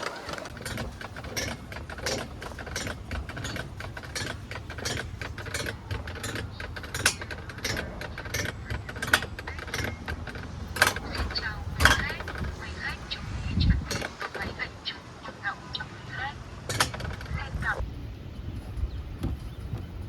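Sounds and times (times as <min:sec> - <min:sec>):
rattles and clicks: 0:00.0 - 0:15.8, 0:16.6 - 0:17.9
coaster cart rumbling on track: 0:00.0 - 0:20.0.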